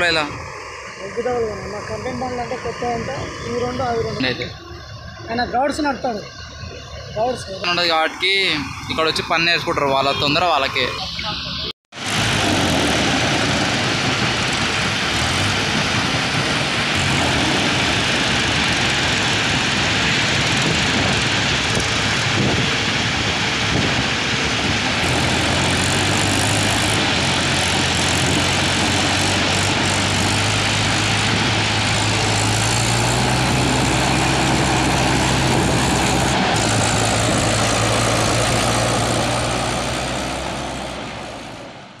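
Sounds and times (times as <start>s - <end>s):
heavy vehicle engine running: 0.0s - 42.0s
rush of noise: 0.0s - 42.0s.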